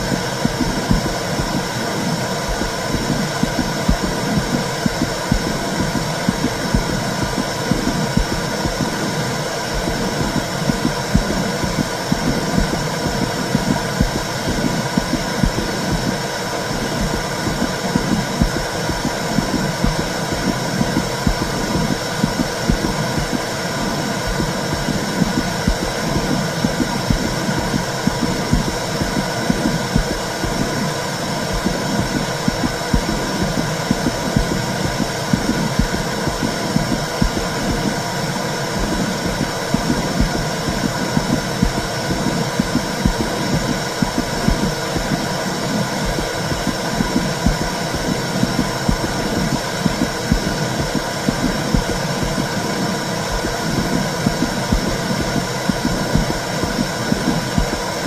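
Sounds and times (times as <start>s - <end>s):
deep bass heartbeat pulses: 0.0s - 9.1s, 9.8s - 38.0s, 38.8s - 58.0s.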